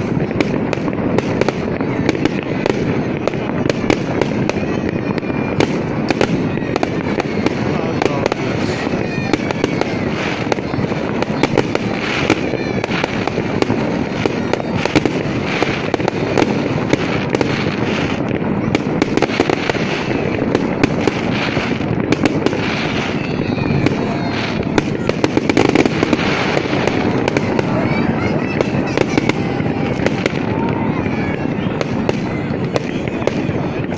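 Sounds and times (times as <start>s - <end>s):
faint firework whistles: 0.0s - 33.9s
fireworks bangs and crackling: 0.0s - 33.9s.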